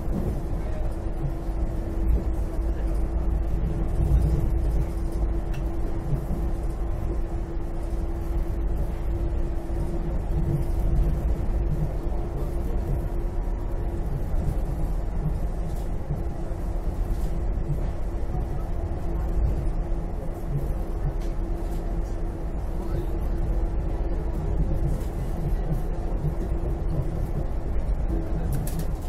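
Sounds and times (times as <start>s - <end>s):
constant hum: 0.0s - 29.0s
people-mover car rumbling on guideway: 0.0s - 29.0s.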